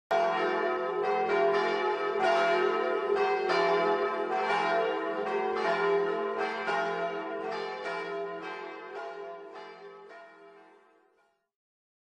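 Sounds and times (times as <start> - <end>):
church bells ringing: 0.1 - 11.3.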